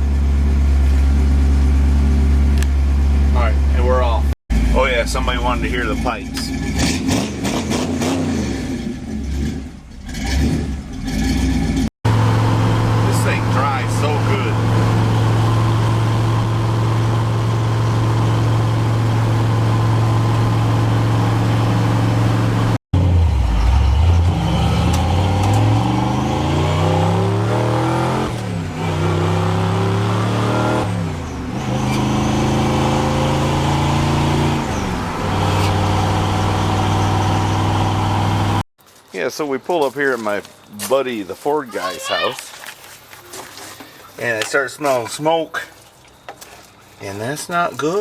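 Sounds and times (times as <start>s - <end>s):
car engine and exhaust revving: 0.0s - 38.6s.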